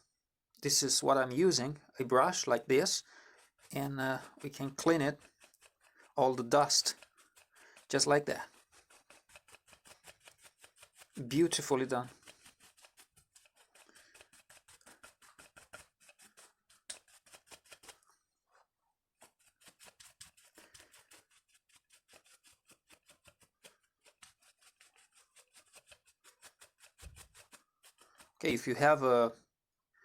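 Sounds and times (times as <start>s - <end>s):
small brush scrubbing: 2.3s - 18.6s, 19.2s - 29.0s.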